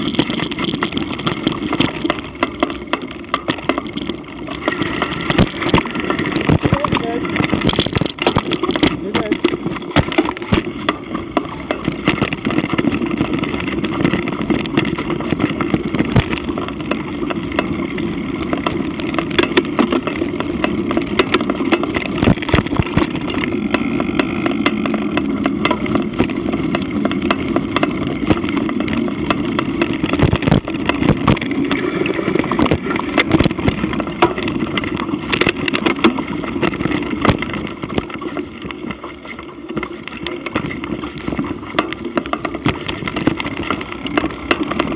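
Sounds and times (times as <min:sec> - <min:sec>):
bike knocking and rattling: 0:00.0 - 0:44.9
bike tyres rumbling on dirt: 0:00.0 - 0:44.9.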